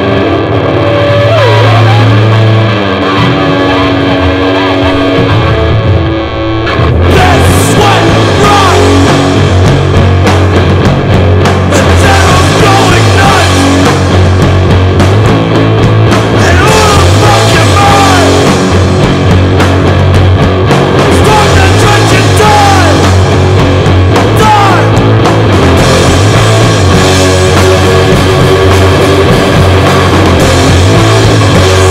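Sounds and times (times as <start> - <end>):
distorted electric guitar: 0.0 - 31.9
punk rock band playing: 0.0 - 31.9.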